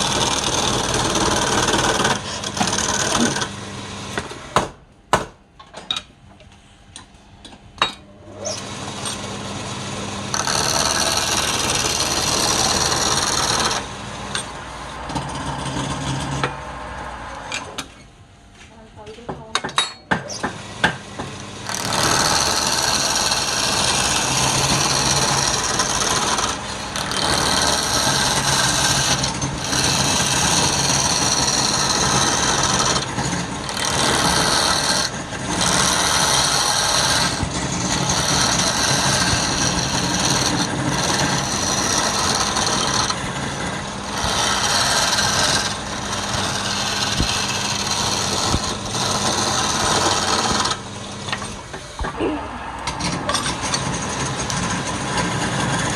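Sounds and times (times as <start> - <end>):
turning tool scraping wood: 0.0 - 3.6, 10.2 - 17.8, 20.4 - 52.1, 52.9 - 55.9
lathe motor hum: 0.0 - 4.5, 8.3 - 17.8, 20.5 - 55.9.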